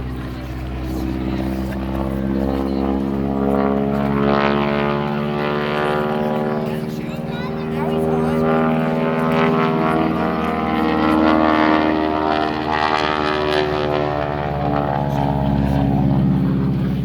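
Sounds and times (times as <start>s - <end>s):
propeller aircraft engine running: 0.0s - 17.0s.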